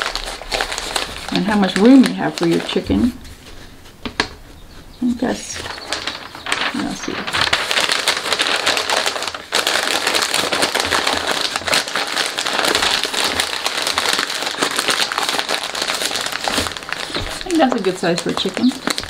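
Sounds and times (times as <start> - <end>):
paper crumpling: 0.0 - 4.4, 5.2 - 19.0.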